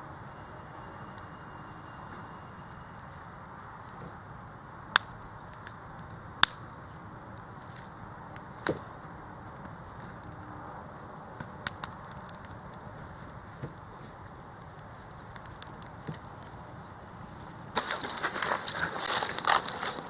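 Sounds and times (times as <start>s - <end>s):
steady hiss: 0.0s - 20.0s
sharp cracks: 3.0s - 10.5s, 11.4s - 20.0s.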